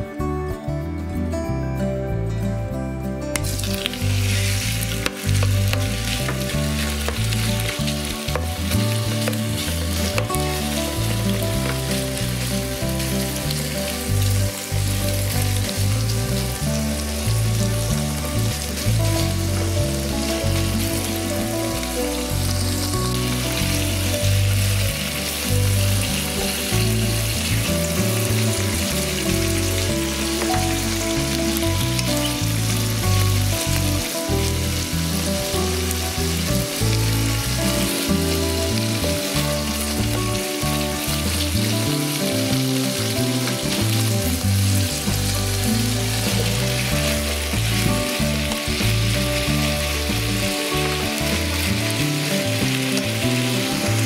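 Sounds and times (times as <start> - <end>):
background music: 0.0 - 54.0
chicken sizzling in frying pan: 3.3 - 54.0.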